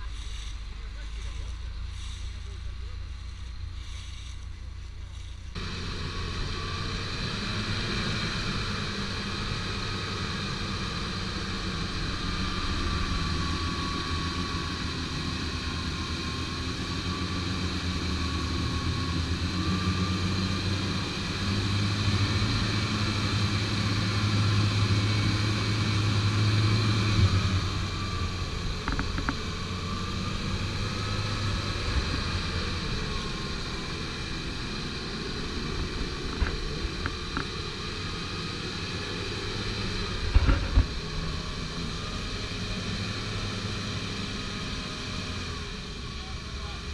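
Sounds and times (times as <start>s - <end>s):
off-road vehicle engine under load: 0.0s - 46.9s.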